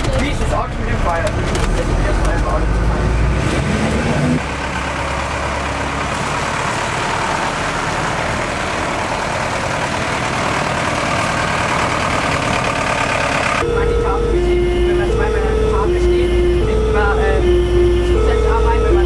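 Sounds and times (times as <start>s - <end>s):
fire engine diesel engine running: 0.0s - 19.0s
road noise: 0.0s - 19.0s.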